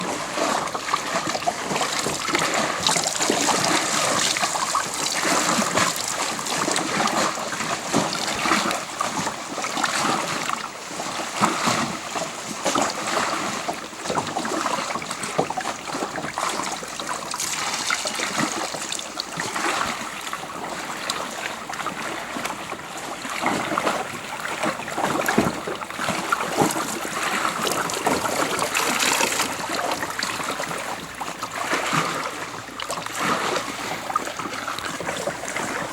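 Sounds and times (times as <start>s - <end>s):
water splashing and trickling: 0.0s - 35.9s.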